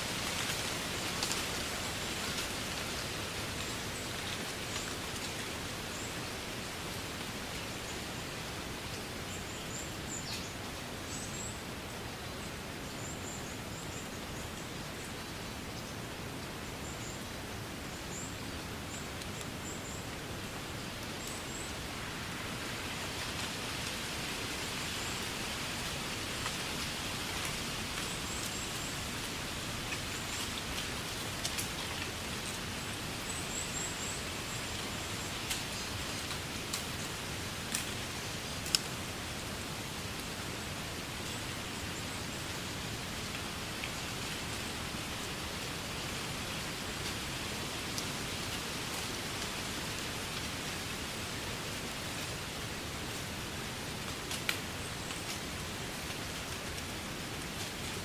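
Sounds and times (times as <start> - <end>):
wind rustling grass: 0.0 - 58.0.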